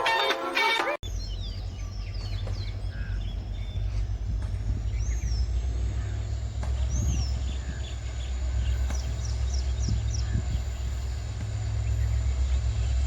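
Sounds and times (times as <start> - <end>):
birds chirping: 0.0 - 13.0
diesel locomotives rumbling: 1.0 - 13.0.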